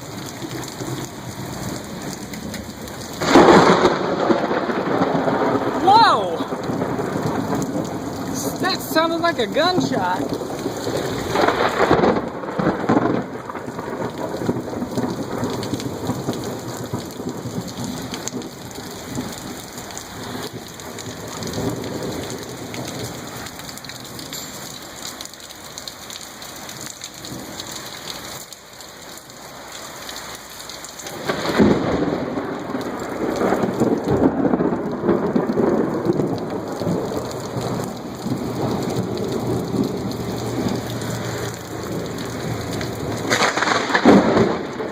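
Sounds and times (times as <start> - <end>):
heavy rain pouring: 0.0 - 44.9
loud thunder rumbling: 0.1 - 23.3, 31.1 - 44.9.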